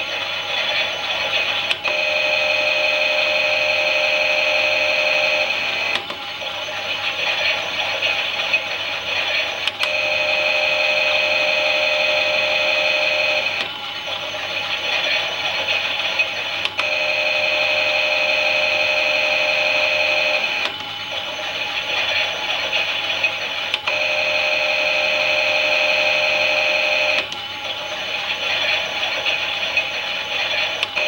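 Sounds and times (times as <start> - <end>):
toy motor high whine: 0.0 - 31.0.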